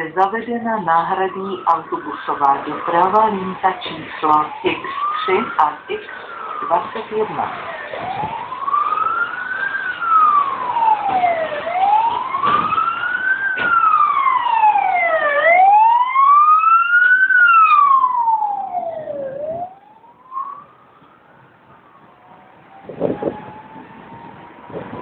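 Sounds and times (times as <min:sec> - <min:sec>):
emergency siren wailing: 0:00.0 - 0:25.0.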